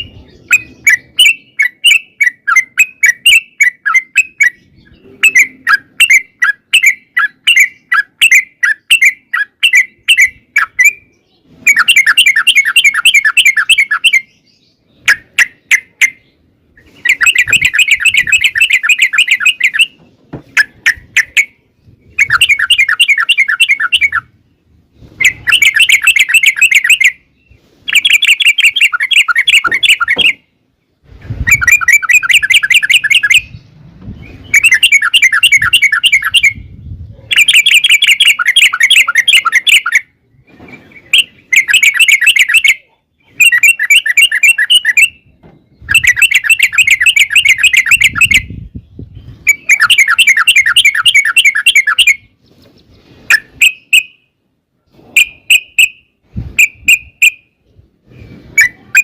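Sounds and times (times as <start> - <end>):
bulbul singing rolling song: 0.0 - 59.0.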